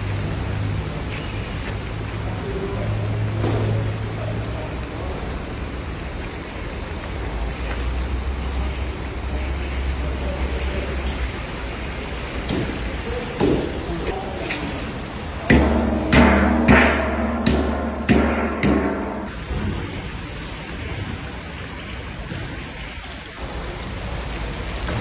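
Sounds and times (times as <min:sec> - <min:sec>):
oil and broth boiling and sizzling: 0:00.0 - 0:25.0.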